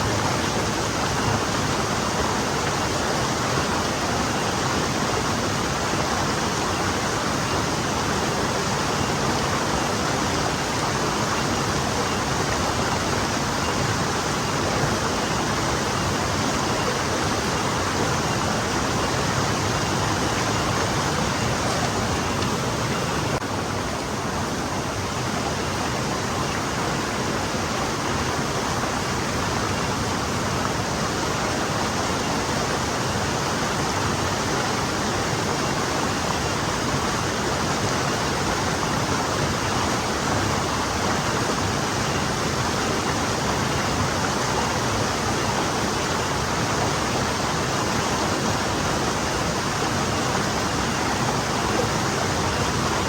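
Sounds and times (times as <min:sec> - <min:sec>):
forest stream flowing: 0:00.0 - 0:53.0.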